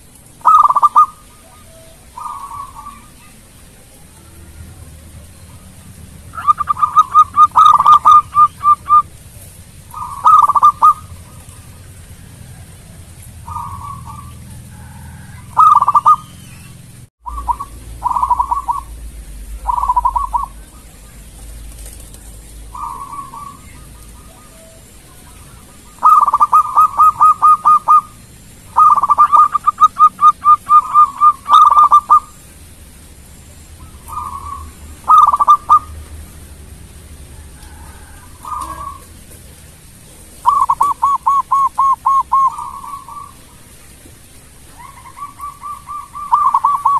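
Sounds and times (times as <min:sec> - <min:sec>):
dove cooing: 0:00.4 - 0:16.7, 0:17.3 - 0:32.4, 0:33.8 - 0:36.0, 0:37.2 - 0:43.8, 0:44.7 - 0:46.9.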